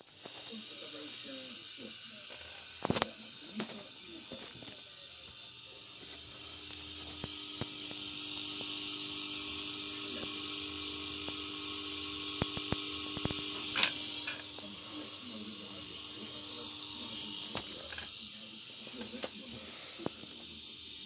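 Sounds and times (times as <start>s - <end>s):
lamp ballast hum with hiss: 0.0s - 21.0s.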